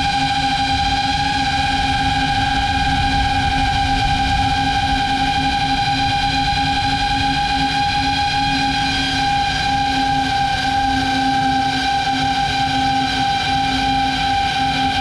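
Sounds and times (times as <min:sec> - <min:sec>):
wind on microphone: 0:00.0 - 0:12.1.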